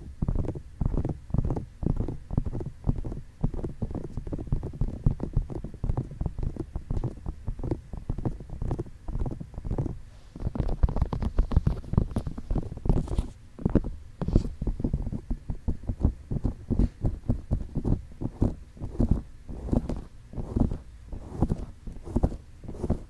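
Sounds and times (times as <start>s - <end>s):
fingertips tapping microphone: 0.2s - 23.0s.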